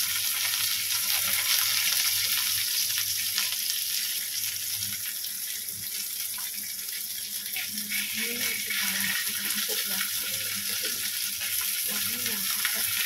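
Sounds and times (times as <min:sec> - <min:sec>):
chilies sizzling in hot oil: 0:00.0 - 0:13.0.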